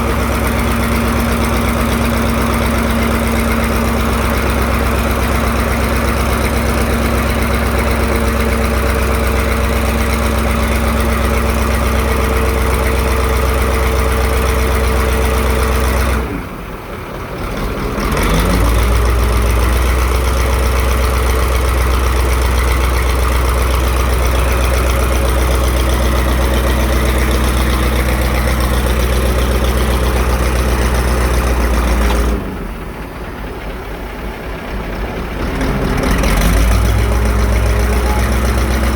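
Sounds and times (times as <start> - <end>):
pile driver engine humming: 0.0 - 38.9.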